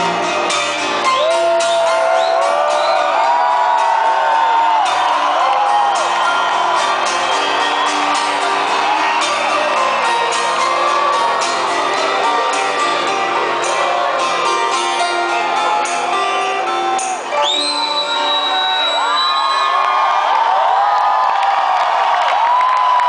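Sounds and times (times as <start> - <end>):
live rock band playing: 0.0 - 18.6
crowd whooping: 1.0 - 23.0.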